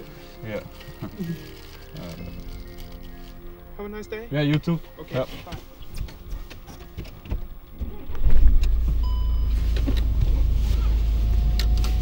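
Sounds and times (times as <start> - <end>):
vehicle motor humming: 0.0 - 12.0.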